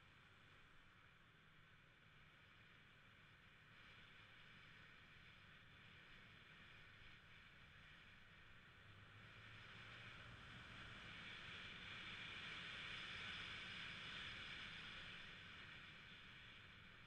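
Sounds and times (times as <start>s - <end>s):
wind and road noise: 2.2s - 17.0s.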